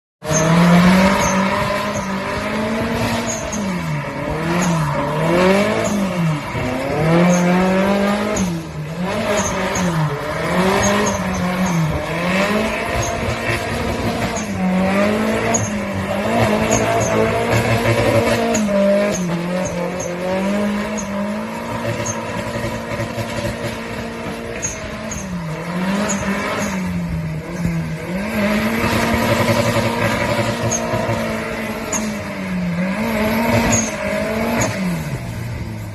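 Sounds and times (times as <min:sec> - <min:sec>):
car engine revving: 0:00.2 - 0:35.9
tyre noise on wet road: 0:00.2 - 0:35.9.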